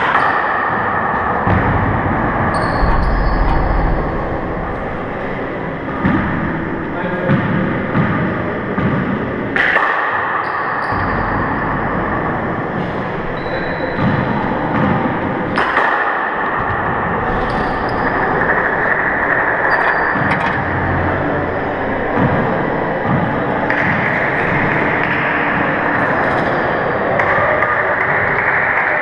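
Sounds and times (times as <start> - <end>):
echoing court noise: 0.0 - 29.0.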